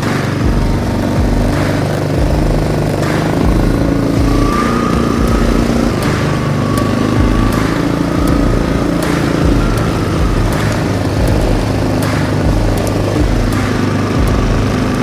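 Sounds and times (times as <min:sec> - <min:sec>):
small vehicle engine running: 0:00.0 - 0:15.0.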